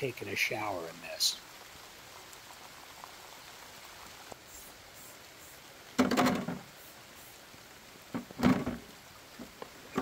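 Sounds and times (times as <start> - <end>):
falling water hiss: 0.0 - 10.0
rain: 0.0 - 10.0.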